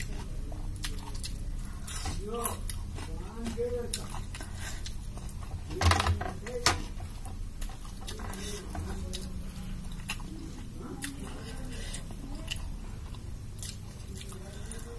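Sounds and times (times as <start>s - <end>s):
wet mouth eating sounds: 0.0s - 5.4s, 7.8s - 14.9s.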